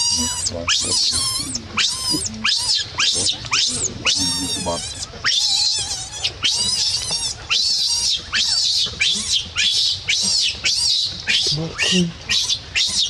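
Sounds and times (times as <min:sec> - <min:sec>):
baby monkey screaming: 0:00.0 - 0:13.0.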